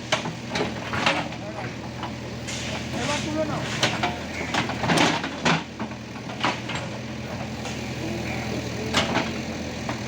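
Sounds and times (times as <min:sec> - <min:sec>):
heavy vehicle engine idling: 0:00.0 - 0:10.0.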